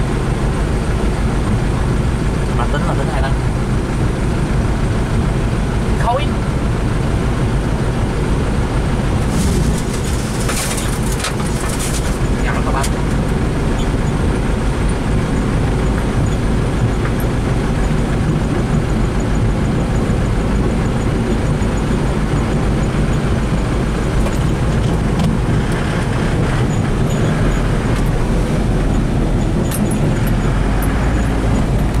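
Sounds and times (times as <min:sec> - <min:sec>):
faint rattles of wheel loader: 0:00.0 - 0:32.0
stone crushing plant rumbling: 0:00.0 - 0:32.0.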